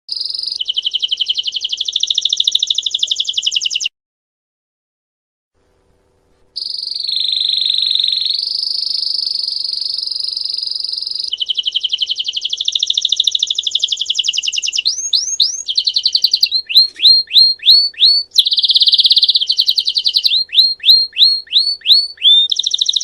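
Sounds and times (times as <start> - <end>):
canary singing trills: 0.1 - 3.9, 6.6 - 23.0.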